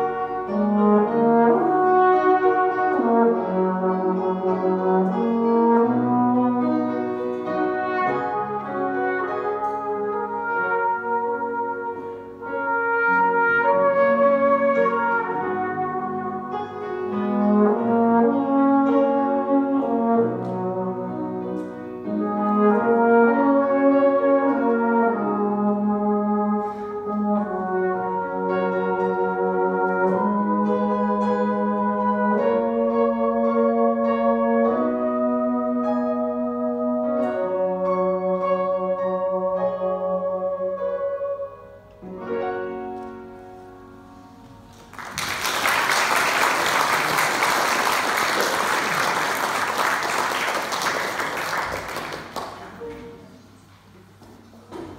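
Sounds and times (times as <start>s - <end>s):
flugelhorn: 0.0s - 53.5s.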